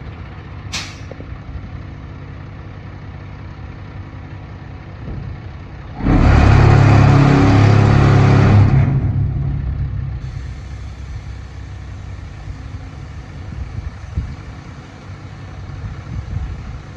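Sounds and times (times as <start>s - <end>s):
diesel truck engine revving: 3.1s - 16.9s.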